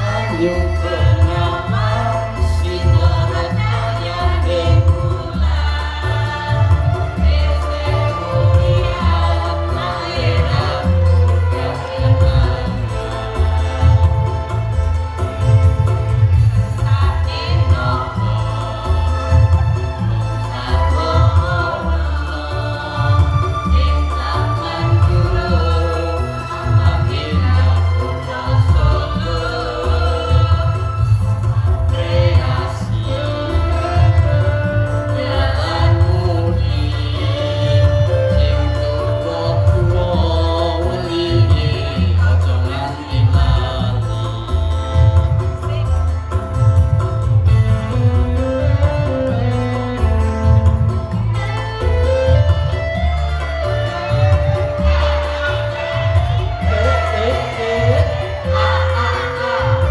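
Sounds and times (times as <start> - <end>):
electronic keyboard with heavy bass: 0.0 - 59.9
mixed choir singing: 0.0 - 59.9.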